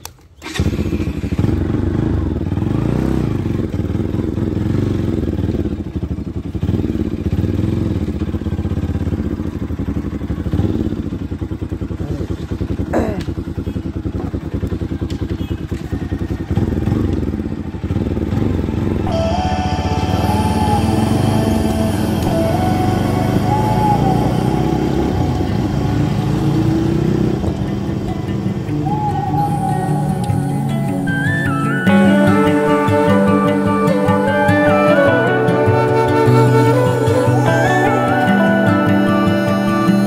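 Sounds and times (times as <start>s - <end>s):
motorcycle engine running: 0.4s - 40.0s.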